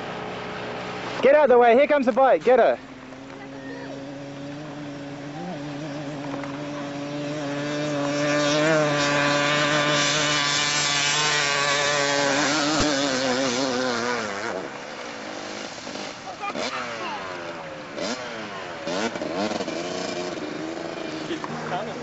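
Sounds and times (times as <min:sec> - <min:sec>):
engine at high revs: 0:00.0 - 0:22.0.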